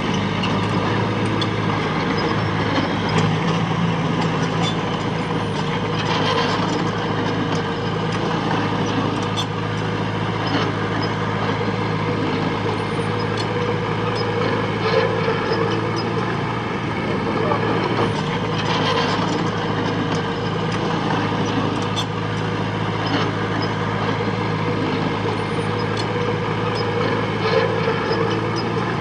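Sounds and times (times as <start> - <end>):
metallic clanks and squeaks: 0.0 - 16.4, 17.3 - 29.0
bulldozer diesel engine running: 0.0 - 29.0.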